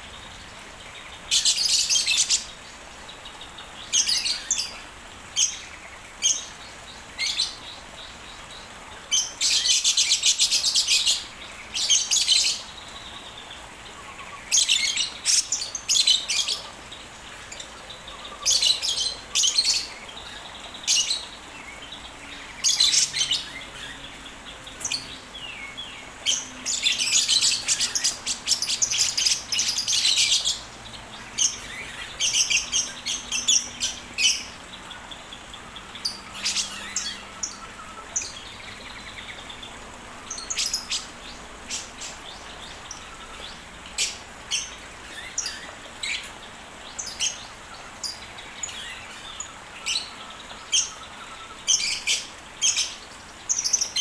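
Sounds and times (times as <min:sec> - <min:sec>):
birds chirping rapidly: 0:00.0 - 0:54.0.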